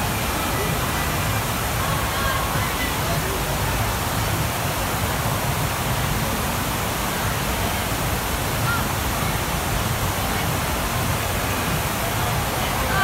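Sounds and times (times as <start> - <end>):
water rushing over surf simulator: 0.0 - 13.0.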